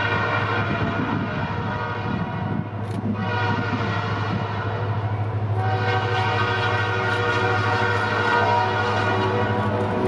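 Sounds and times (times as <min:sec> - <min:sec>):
train air horn blast: 0:00.0 - 0:02.4, 0:03.0 - 0:04.9, 0:05.6 - 0:10.0.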